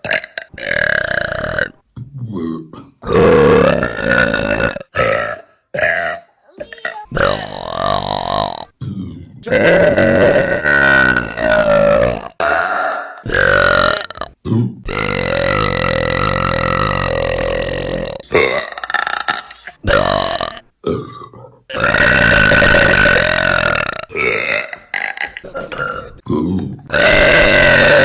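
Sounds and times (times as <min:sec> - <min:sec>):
woman burping loudly: 0:00.0 - 0:01.8, 0:02.4 - 0:08.8, 0:09.5 - 0:28.0.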